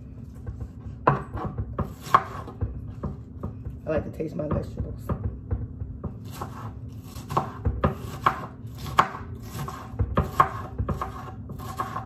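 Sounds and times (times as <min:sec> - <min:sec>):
knife chopping on wooden board: 0:00.4 - 0:03.8, 0:04.4 - 0:12.0.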